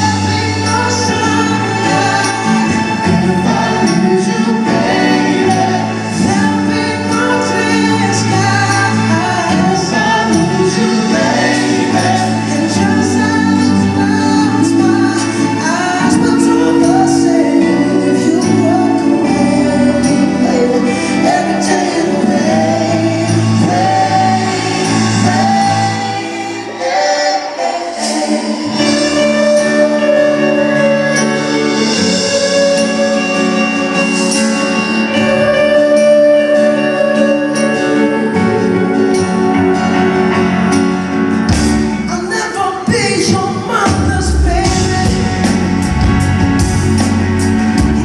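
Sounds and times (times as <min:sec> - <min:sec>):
band accompaniment: 0:00.0 - 0:48.0
person singing pop ballad: 0:00.0 - 0:48.0.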